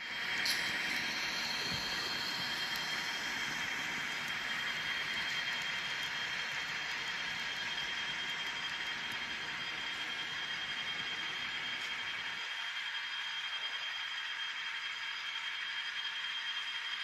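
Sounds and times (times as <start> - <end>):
high-pitched whine: 0.0 - 17.0
model train wheels and motor whirring: 0.0 - 17.0.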